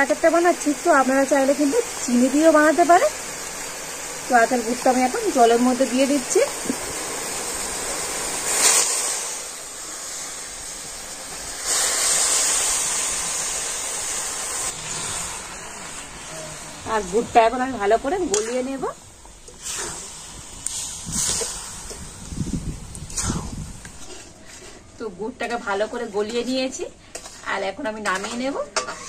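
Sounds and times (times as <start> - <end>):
hot water hissing and sizzling: 0.0 - 29.0.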